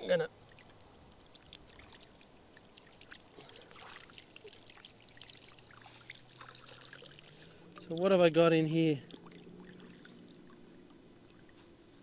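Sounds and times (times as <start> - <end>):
water dripping from net: 0.3 - 8.1, 9.0 - 11.7
shallow water splashing: 0.3 - 12.0.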